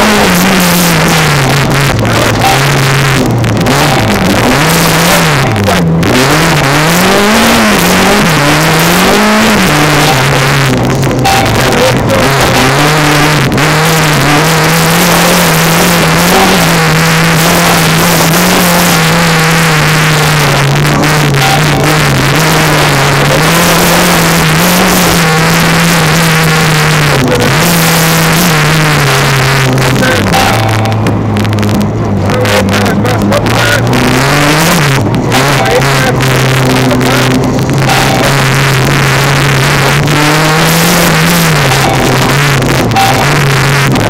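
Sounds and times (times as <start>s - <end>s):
car engine running hard: 0.0s - 44.0s.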